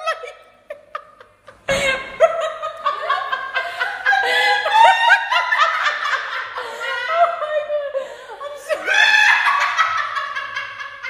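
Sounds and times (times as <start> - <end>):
woman laughing hysterically: 0.0 - 11.0.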